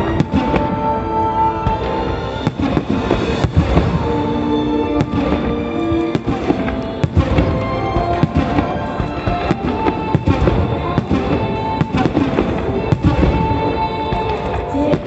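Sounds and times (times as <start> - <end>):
music over loudspeakers: 0.0 - 15.0
firework shells booming: 1.6 - 15.0.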